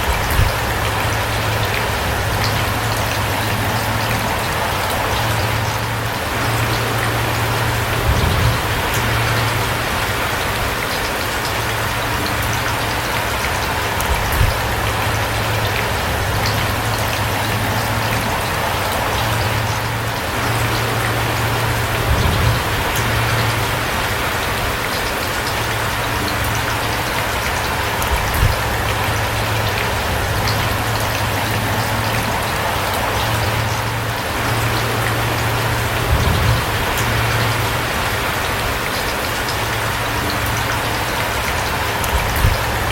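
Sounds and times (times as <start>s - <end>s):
steady rain patter: 0.0s - 42.9s.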